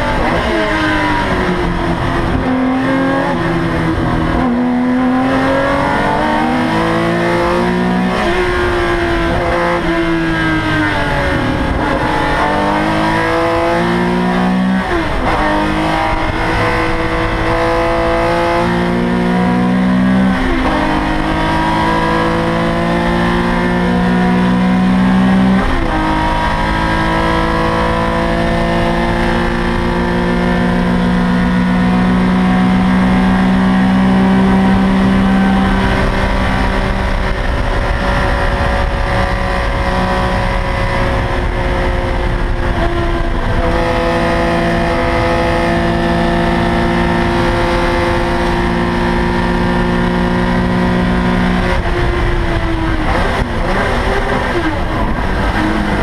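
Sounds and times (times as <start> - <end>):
car engine running hard: 0.0 - 56.0.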